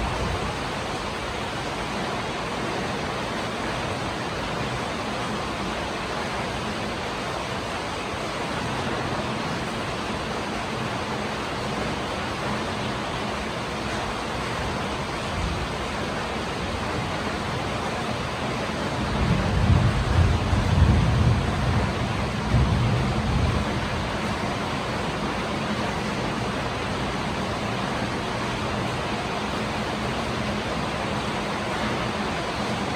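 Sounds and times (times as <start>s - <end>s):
steady rain hiss: 0.0s - 32.9s.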